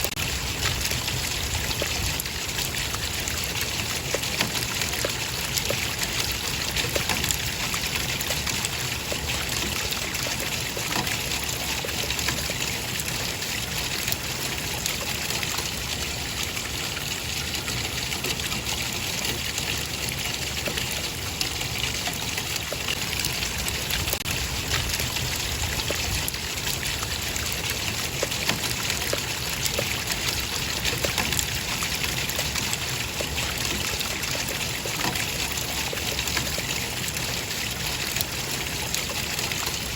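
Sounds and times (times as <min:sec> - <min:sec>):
running water trickling: 0:00.0 - 0:39.9
water drips and splashes: 0:00.0 - 0:39.9.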